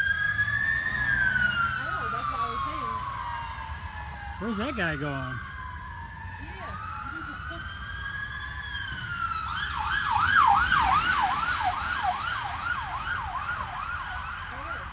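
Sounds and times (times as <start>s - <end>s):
police siren wailing and yelping: 0.0s - 14.9s.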